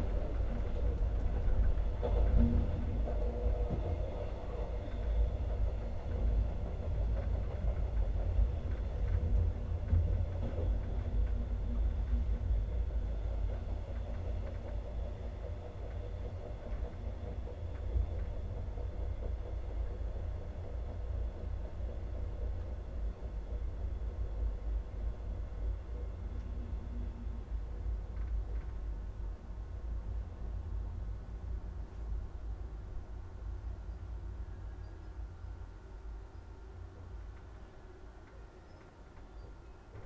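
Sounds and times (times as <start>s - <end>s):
train wheels rumbling on track: 0.0s - 40.0s.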